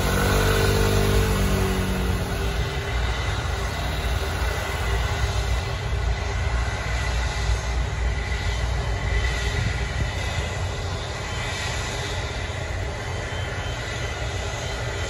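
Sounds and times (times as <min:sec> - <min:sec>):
faint high engine whine: 0:00.0 - 0:15.0
jet engines rumbling: 0:00.0 - 0:15.0.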